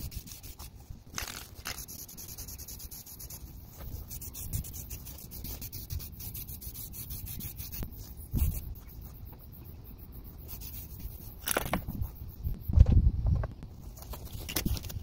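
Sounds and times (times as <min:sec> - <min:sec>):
spray paint hiss: 0:00.0 - 0:12.5.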